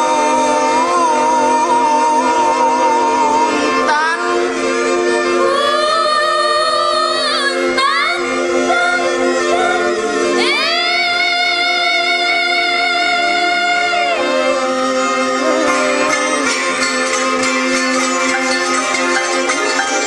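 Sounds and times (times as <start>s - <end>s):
ensemble music with singing: 0.0s - 20.0s
steady held drone: 0.0s - 20.0s
wavering sliding melody: 0.0s - 20.0s.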